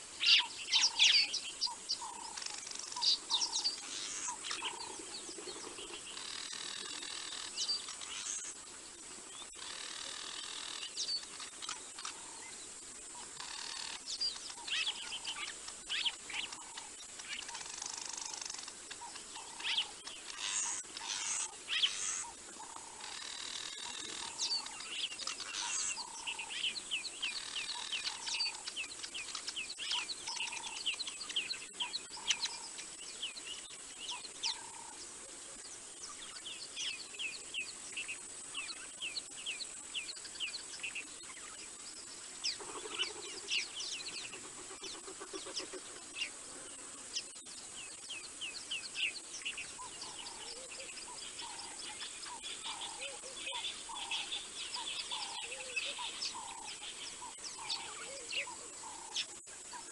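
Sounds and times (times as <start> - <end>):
wild birds chirping: 0.0 - 59.9.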